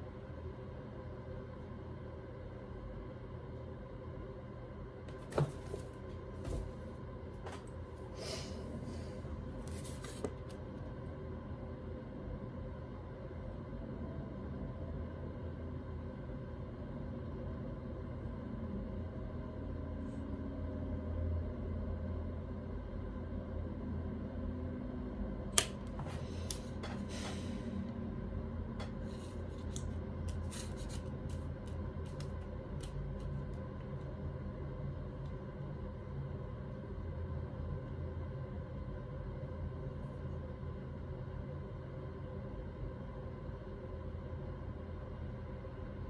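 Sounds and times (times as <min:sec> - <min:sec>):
low room hum: 0:00.0 - 0:46.0.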